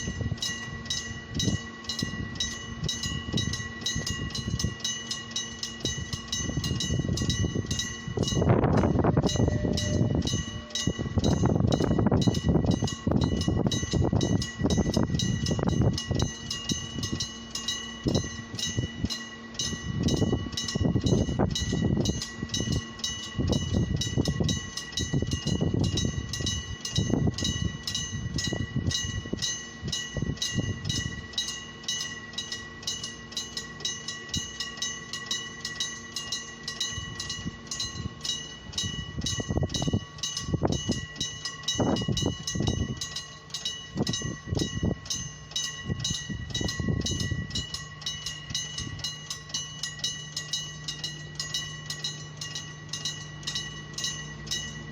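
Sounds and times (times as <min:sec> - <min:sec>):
diesel train rumbling past: 0:00.0 - 0:49.6
level crossing warning bell: 0:00.0 - 0:54.9.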